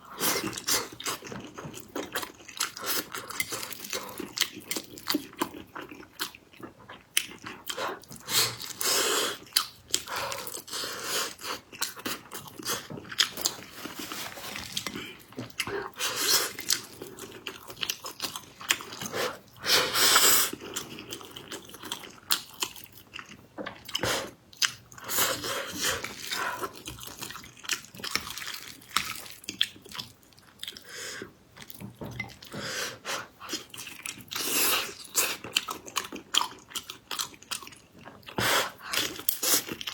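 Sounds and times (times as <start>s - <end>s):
person chewing sticky food: 0.0s - 39.9s.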